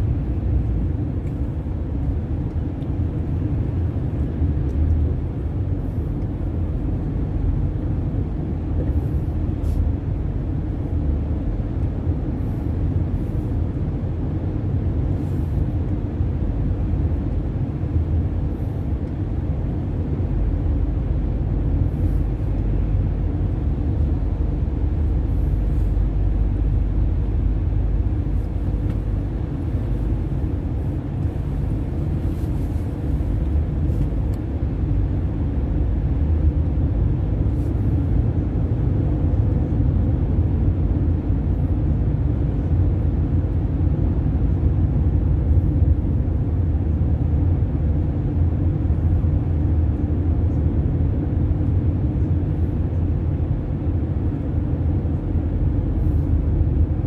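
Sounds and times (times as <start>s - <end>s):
car driving through tunnel: 0.0s - 57.0s.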